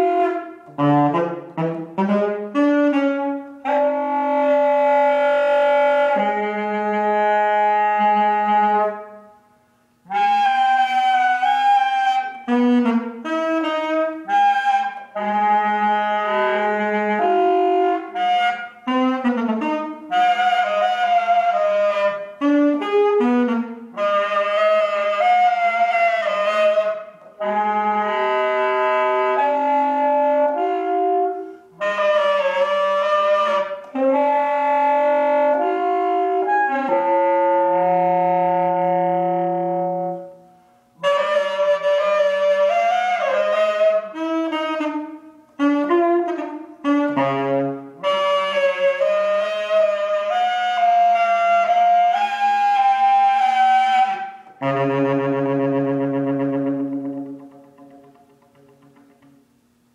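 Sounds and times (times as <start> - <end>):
solo alto saxophone: 0.0 - 59.9.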